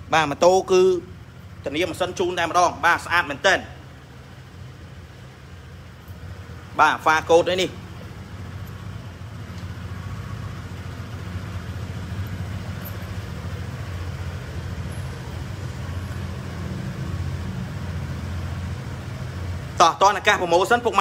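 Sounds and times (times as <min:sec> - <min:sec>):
scooter engine idling: 0:00.0 - 0:21.0.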